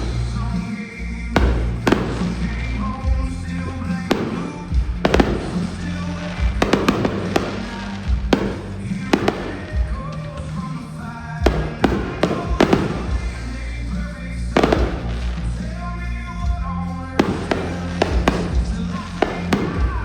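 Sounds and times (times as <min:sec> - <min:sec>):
fireworks bangs: 0:00.0 - 0:20.0
music playing: 0:00.0 - 0:20.0.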